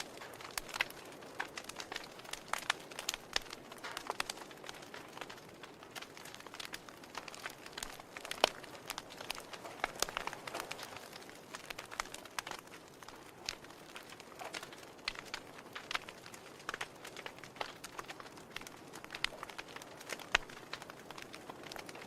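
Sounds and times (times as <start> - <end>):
logs crackling and popping: 0.0 - 22.0
soft hiss of flame: 0.0 - 22.0.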